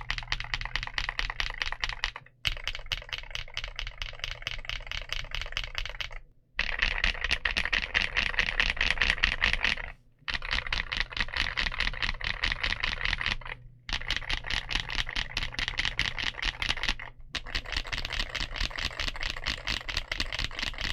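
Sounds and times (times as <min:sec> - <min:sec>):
clicky mechanical keyboard typing: 0:00.0 - 0:20.9.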